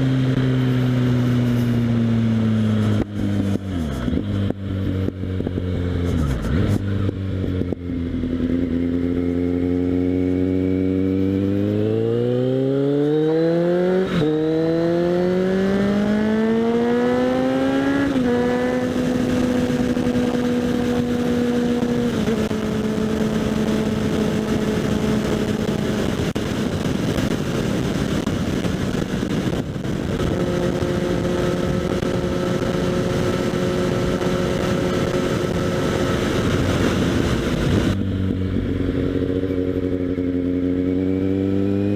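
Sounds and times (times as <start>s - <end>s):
motorcycle engine revving: 0.0s - 41.9s
wind noise: 0.0s - 41.9s.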